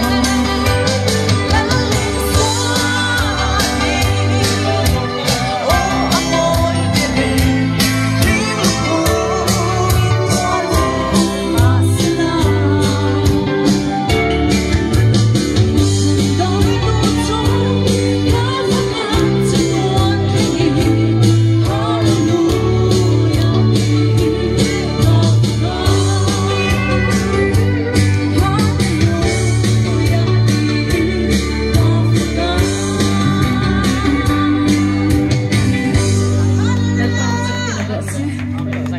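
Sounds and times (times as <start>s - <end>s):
woman singing into microphone: 0.0s - 7.5s, 8.1s - 14.6s, 15.8s - 38.4s
amplified instrumental accompaniment: 0.0s - 38.9s.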